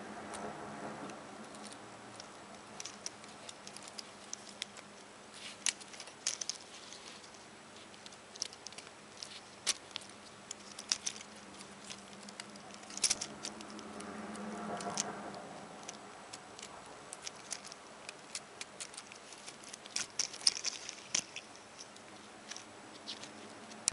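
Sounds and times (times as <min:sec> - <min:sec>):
plastic parts clicking and rattling: 0:00.3 - 0:23.9.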